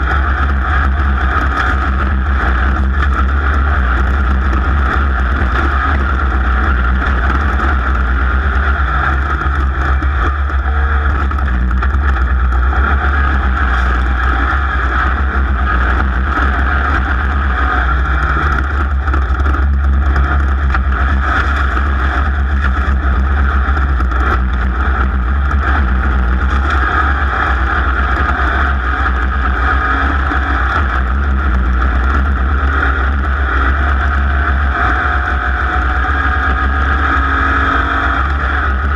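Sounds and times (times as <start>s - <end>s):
racing engine droning: 0.0s - 38.9s.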